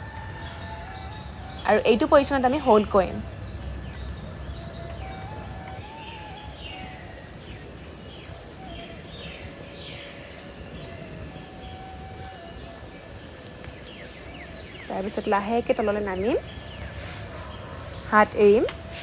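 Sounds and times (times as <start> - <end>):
birds chirping: 0.0 - 19.0
high insect buzz: 0.0 - 19.0
low background noise: 0.0 - 19.0.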